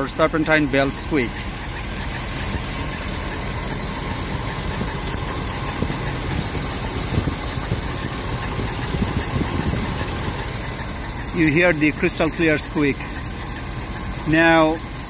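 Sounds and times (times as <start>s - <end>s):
drive belt squealing: 0.0s - 15.0s
engine idling: 0.0s - 15.0s.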